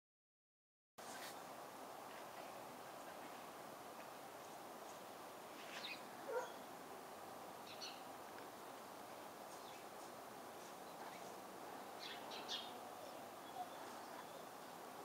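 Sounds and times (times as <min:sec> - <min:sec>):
outdoor background hiss: 0:01.0 - 0:15.0
faint birds chirping: 0:01.8 - 0:15.0.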